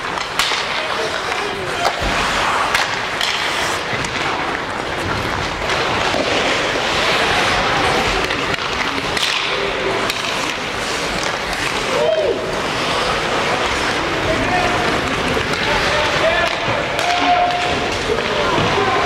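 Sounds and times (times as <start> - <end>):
hockey sticks knocking puck: 0.0 - 19.0
skates scraping on ice: 0.0 - 19.0.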